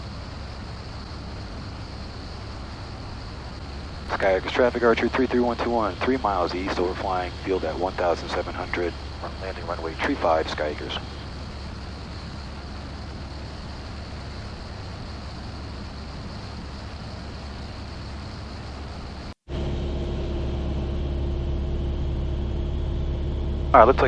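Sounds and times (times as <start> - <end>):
airplane engine and propeller drone: 0.0 - 24.0.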